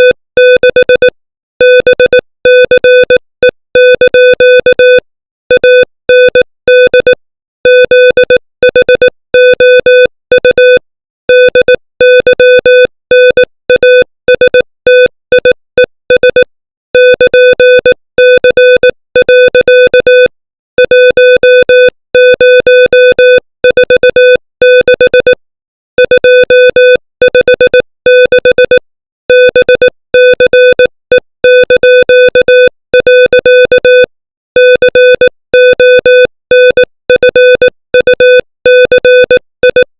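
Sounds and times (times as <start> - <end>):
morse code tone: 0.0 - 25.4, 26.0 - 39.9.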